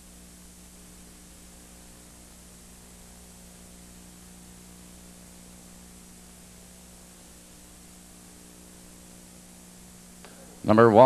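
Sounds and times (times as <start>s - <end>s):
faint tape hiss: 0.0s - 11.0s
low electrical hum: 0.0s - 11.0s.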